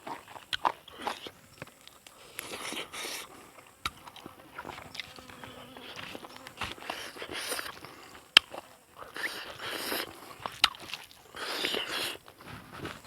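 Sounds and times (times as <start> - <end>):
person chewing and eating: 0.0 - 13.0.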